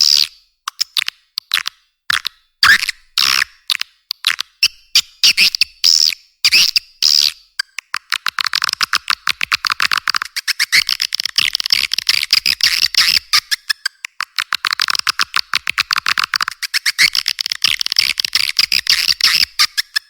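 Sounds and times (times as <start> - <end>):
rapid bird chirps and clicks: 0.0 - 20.0.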